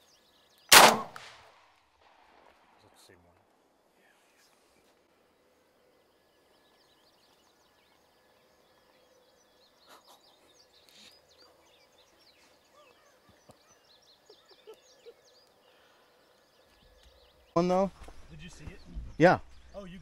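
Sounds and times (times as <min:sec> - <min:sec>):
faint bird chirps: 0:04.0 - 0:20.0.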